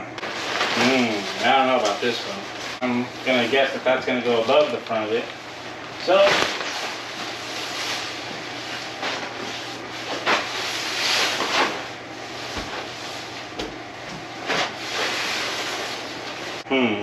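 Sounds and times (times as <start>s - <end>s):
nylon tent fabric rustling: 0.2s - 13.6s, 14.4s - 16.6s.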